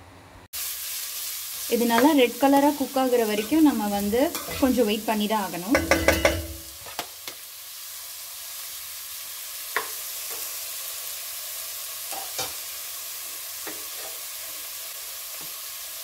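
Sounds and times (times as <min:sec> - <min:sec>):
onions sizzling in oil: 0:00.5 - 0:16.0.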